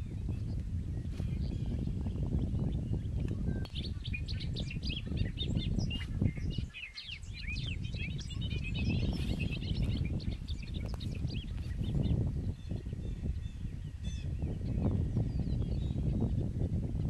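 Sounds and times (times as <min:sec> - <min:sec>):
birds chirping and twittering: 0:00.0 - 0:17.0
steady low rumble: 0:00.0 - 0:17.0.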